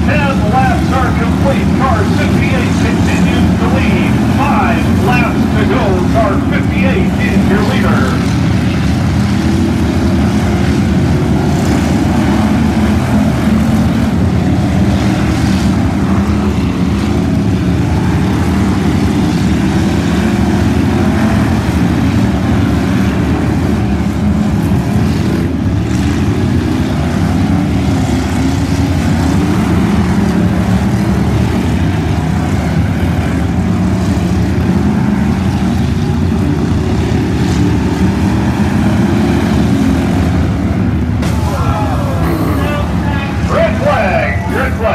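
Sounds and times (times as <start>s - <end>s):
stock car engines racing: 0.0s - 44.9s.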